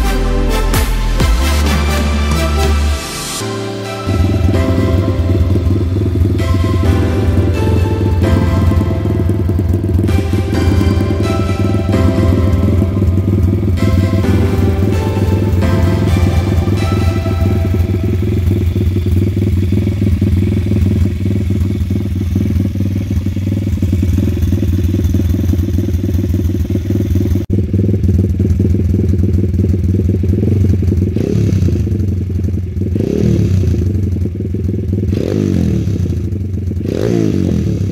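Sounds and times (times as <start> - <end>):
motorbike throttle revving: 0.9 - 37.9
motorbike engine idling: 4.1 - 37.9.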